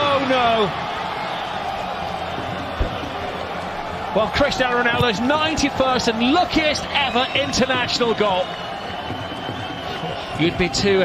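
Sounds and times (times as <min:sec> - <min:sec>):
stadium crowd voices: 0:00.0 - 0:11.0.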